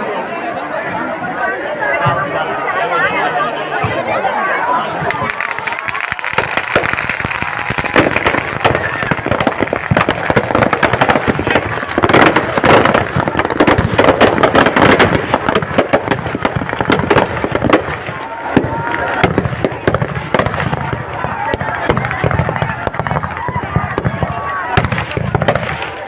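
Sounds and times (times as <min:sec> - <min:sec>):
firecrackers popping: 0:04.9 - 0:26.0.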